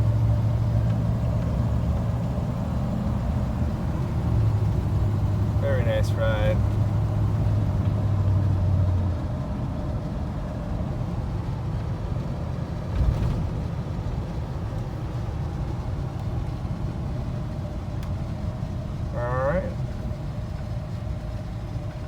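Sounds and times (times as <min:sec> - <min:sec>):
pickup engine: 0:00.0 - 0:22.0
road noise: 0:00.0 - 0:22.0.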